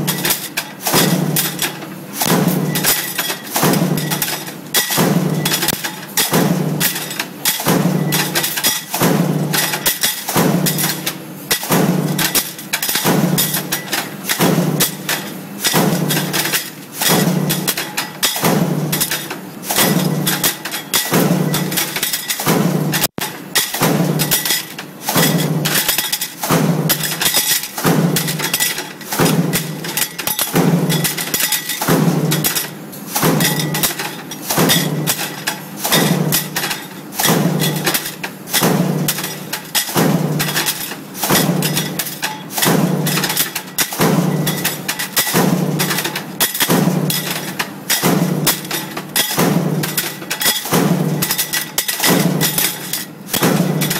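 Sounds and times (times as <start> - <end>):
clattering of tooling and parts: 0.0 - 53.9
stamping press heavy metal impacts: 0.0 - 53.9.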